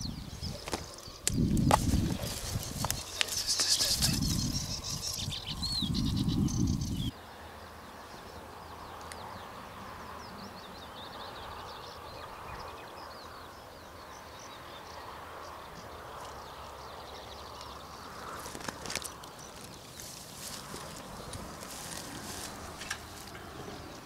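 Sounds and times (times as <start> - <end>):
outdoor background noise: 0.0 - 24.0
songbirds chirping: 0.0 - 24.0.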